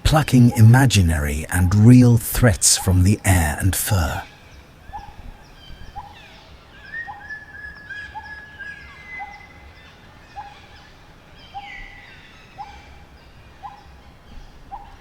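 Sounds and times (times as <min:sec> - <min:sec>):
forest birds calling: 0:00.0 - 0:15.0.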